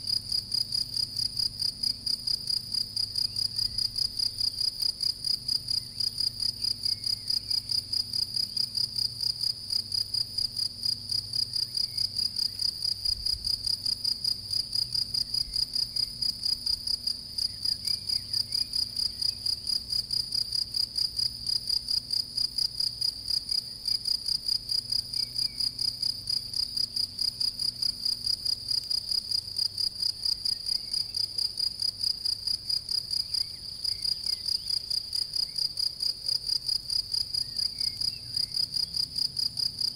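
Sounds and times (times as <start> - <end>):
field cricket chirping: 0.0 - 39.9.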